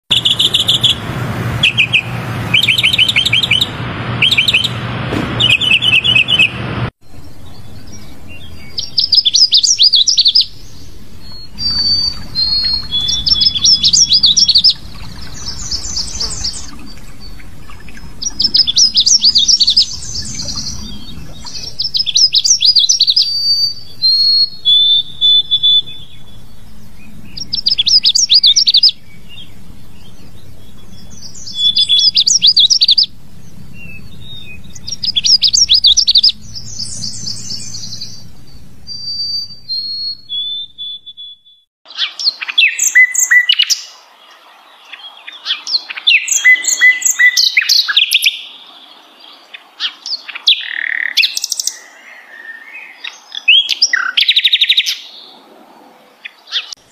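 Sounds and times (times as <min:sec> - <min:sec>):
warbler singing: 0:00.1 - 0:04.8, 0:05.4 - 0:56.9.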